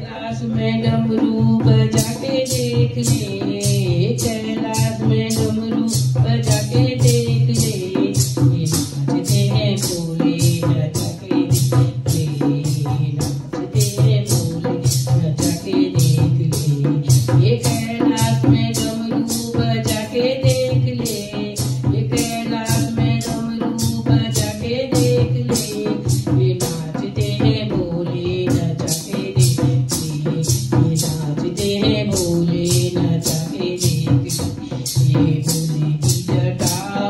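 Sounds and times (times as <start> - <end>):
hand drum: 0.0 - 37.0
rattling percussion beat: 0.0 - 37.0
woman singing: 0.0 - 37.0.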